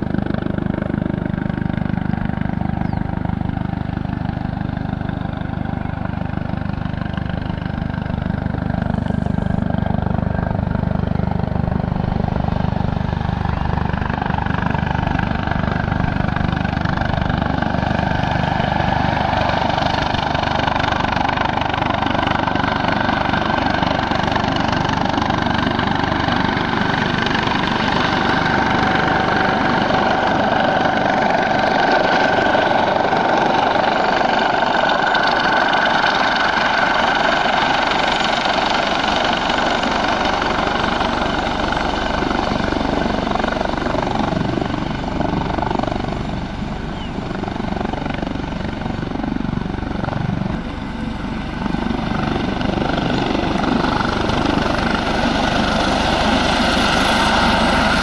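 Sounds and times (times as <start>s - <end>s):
helicopter hovering: 0.0s - 58.0s.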